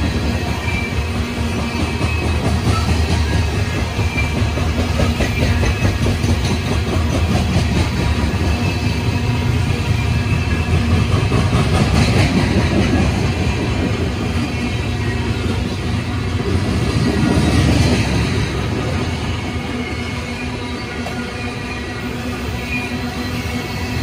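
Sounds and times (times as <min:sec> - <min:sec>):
train rumbling with clickety-clack: 0:00.0 - 0:24.0.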